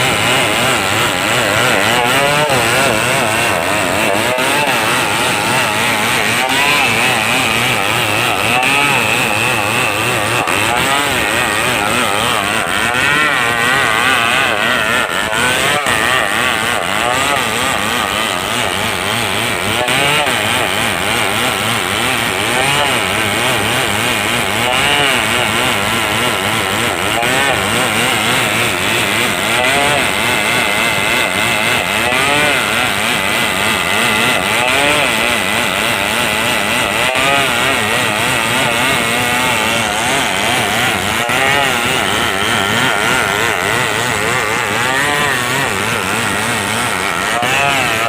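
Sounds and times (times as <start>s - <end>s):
chainsaw sawing through timber: 0.0s - 48.0s.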